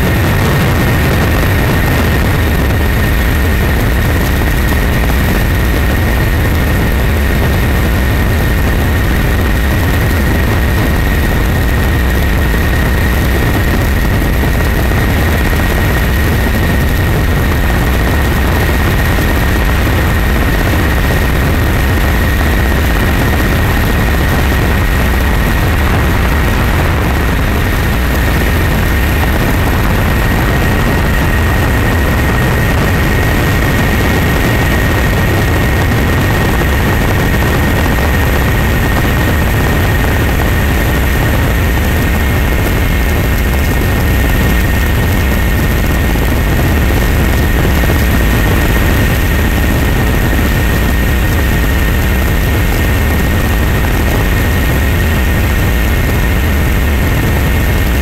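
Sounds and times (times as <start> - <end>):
constant high whine: 0.0 - 58.0
helicopter engine and rotor noise: 0.0 - 58.0.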